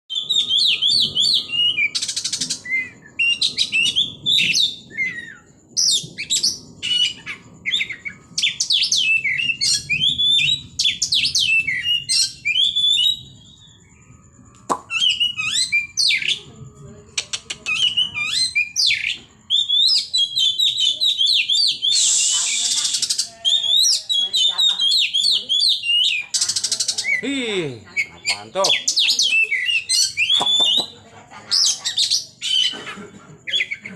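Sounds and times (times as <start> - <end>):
bird singing: 0.1 - 33.9.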